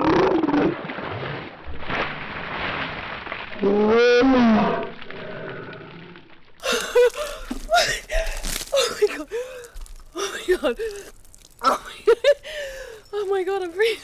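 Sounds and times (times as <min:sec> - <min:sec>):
water splashing: 0:00.0 - 0:04.0, 0:06.2 - 0:14.0.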